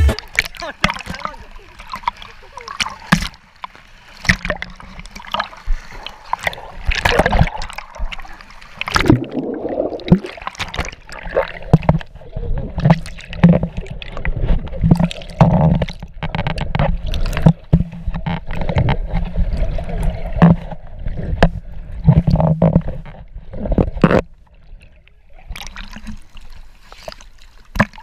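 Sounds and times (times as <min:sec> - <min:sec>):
water rushing and splashing: 0:00.0 - 0:28.0.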